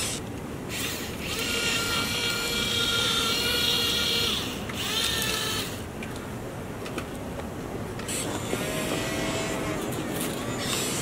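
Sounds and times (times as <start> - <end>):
toy excavator motors whining: 0.0 - 5.9, 8.0 - 11.0.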